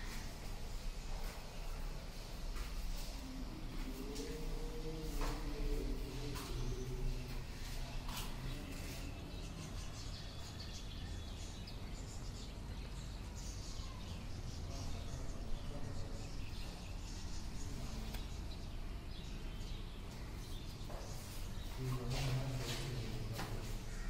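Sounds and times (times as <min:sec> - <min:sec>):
birds chirping: 0:00.0 - 0:24.0
steady low background noise: 0:00.0 - 0:24.0.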